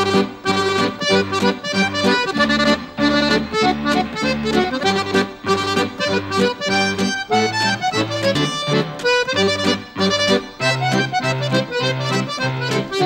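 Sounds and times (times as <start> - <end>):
accordion playing bouncy tune: 0.0 - 13.0.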